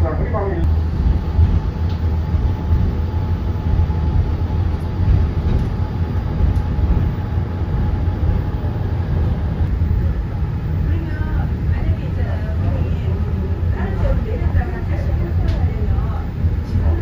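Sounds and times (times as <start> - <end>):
faint steady whine: 0.0 - 17.0
monorail low rumble: 0.0 - 17.0.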